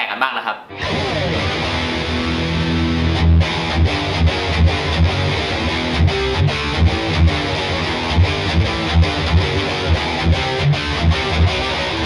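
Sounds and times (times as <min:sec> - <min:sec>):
distorted electric guitar riff: 0:00.7 - 0:12.0.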